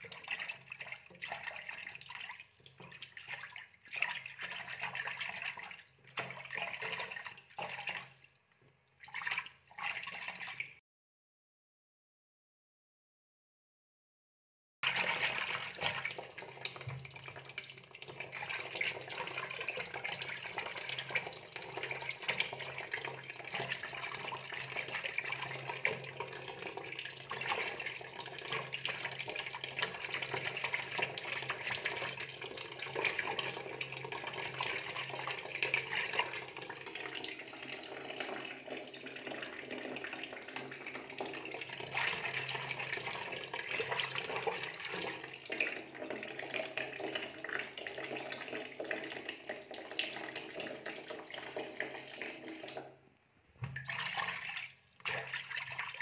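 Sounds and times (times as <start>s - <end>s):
water splashing into fish tank: 0.0s - 10.8s, 14.8s - 53.0s, 53.6s - 56.0s.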